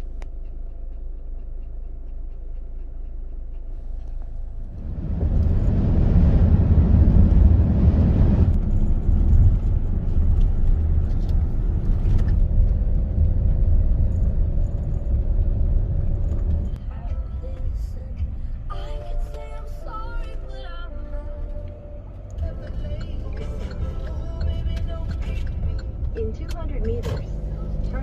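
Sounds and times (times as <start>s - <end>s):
vehicle rumble: 0.0s - 28.0s.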